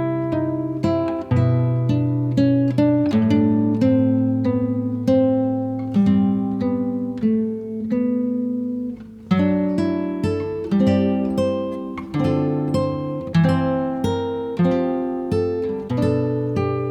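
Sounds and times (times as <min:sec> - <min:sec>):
acoustic guitar picked chords: 0:00.0 - 0:16.9.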